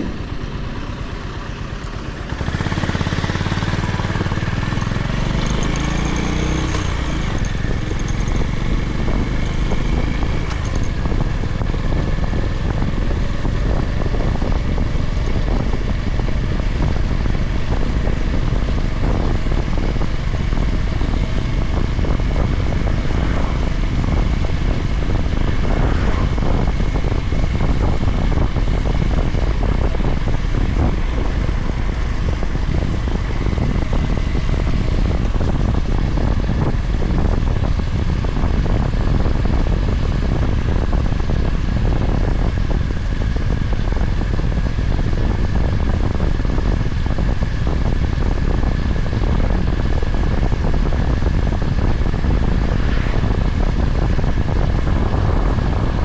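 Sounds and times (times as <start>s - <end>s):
motorcycle engine cruising: 0.0s - 56.0s
wind rush over microphone: 0.0s - 56.0s.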